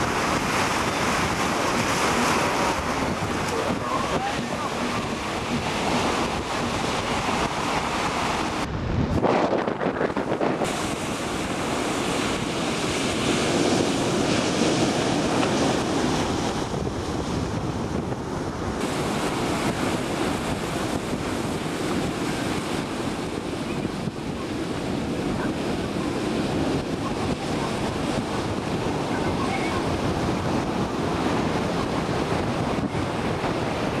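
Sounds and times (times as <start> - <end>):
ocean surf breaking: 0.0 - 34.0
wind on microphone: 0.0 - 34.0.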